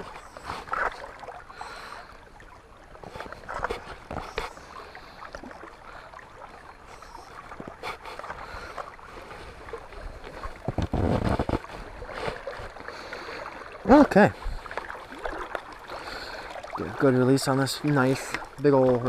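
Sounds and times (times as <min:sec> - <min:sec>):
river water sloshing and splashing: 0:00.0 - 0:19.0.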